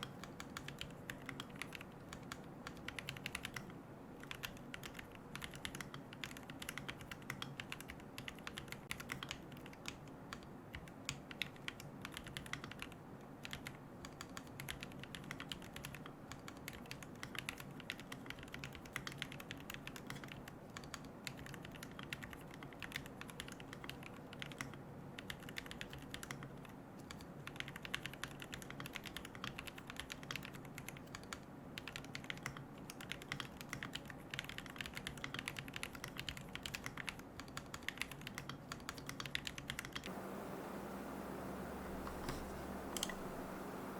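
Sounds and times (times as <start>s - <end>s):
mechanical keyboard typing: 0.0s - 43.9s.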